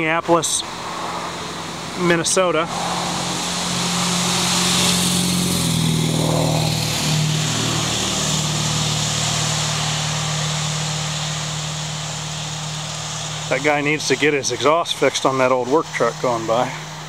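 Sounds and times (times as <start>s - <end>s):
exhaust and road noise: 0.0s - 17.0s
truck engine hum: 0.0s - 17.0s.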